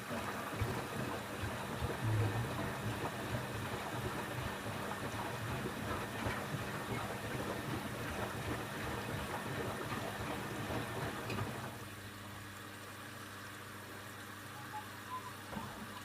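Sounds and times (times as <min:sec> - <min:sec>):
washing machine drum churning: 0:00.0 - 0:11.9, 0:15.1 - 0:16.0
washing machine hum: 0:00.0 - 0:16.0.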